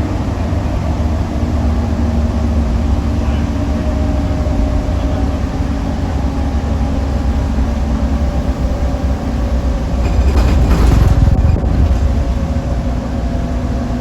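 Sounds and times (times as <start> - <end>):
diesel bus engine rumbling: 0.0 - 14.0.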